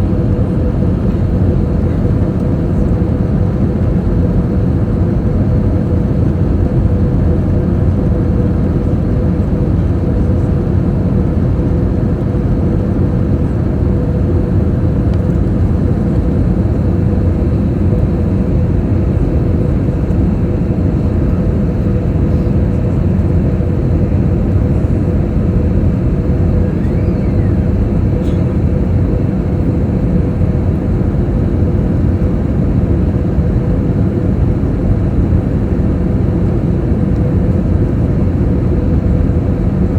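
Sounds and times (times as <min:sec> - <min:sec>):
airliner engine rumble: 0:00.0 - 0:39.9
mid-pitched hum: 0:00.0 - 0:39.9.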